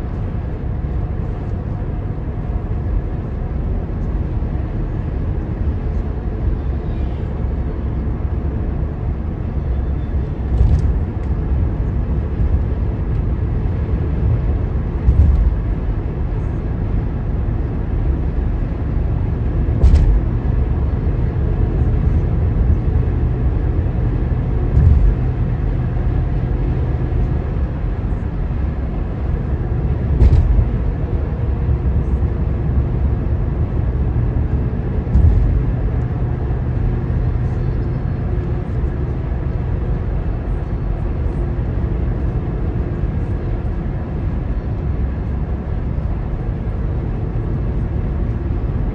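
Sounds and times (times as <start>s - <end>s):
car road and engine noise: 0.0s - 48.9s.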